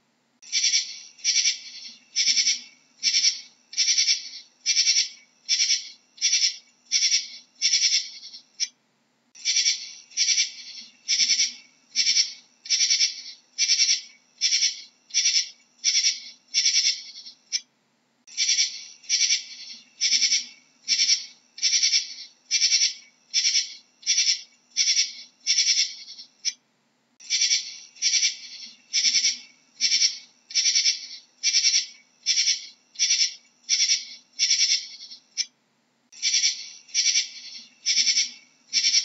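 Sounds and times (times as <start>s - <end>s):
katydid chirping: 0.4s - 8.7s, 9.4s - 17.6s, 18.3s - 26.6s, 27.2s - 35.5s, 36.2s - 39.0s.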